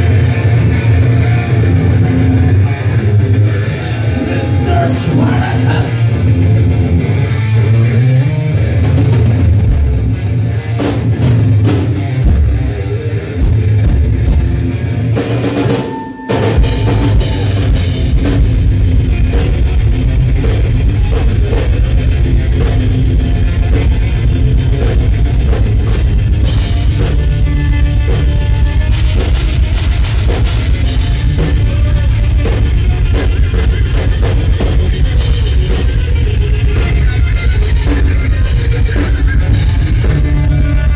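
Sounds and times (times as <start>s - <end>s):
distorted electric guitar: 0.0s - 40.9s
drums: 0.0s - 40.9s
rock band playing: 0.0s - 40.9s.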